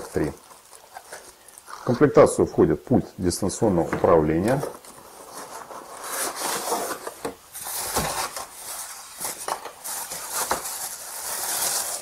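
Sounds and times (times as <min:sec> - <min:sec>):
cardboard and plastic rustling: 0:00.0 - 0:02.4, 0:03.6 - 0:12.0.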